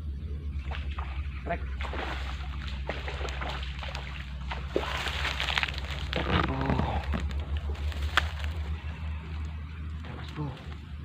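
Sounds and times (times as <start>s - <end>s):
steady low rumble: 0.0s - 11.0s
water splashing and sloshing: 0.5s - 11.0s.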